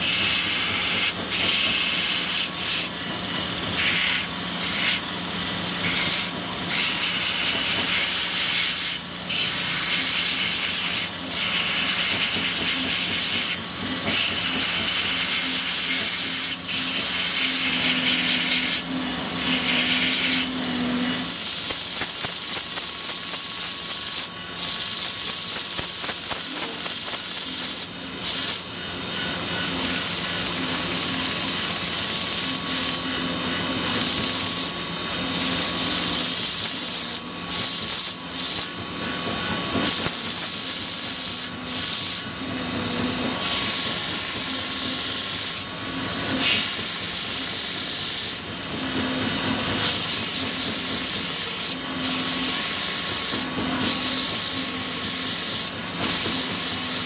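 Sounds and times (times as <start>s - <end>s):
belt grinder grinding blade: 0.0s - 57.0s
faint motor hum: 0.0s - 57.0s.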